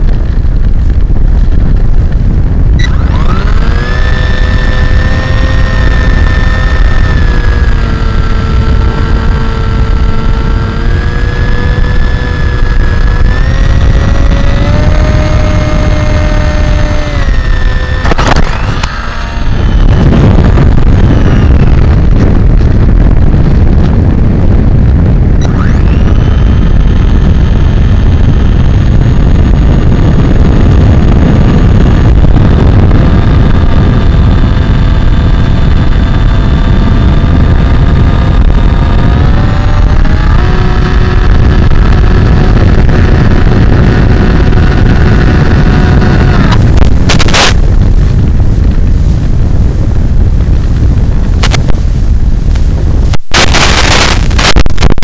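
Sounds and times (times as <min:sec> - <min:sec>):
electric motor whine: 0:00.0 - 0:55.0
sharp crackling bursts: 0:00.0 - 0:55.0
wind rushing over microphone: 0:00.0 - 0:55.0.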